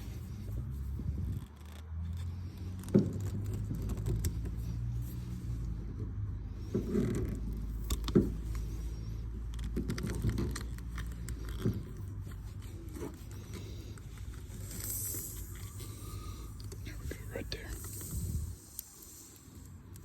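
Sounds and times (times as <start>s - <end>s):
low steady rumble: 0.0s - 20.0s
side cutters clicking and scraping: 0.0s - 20.0s.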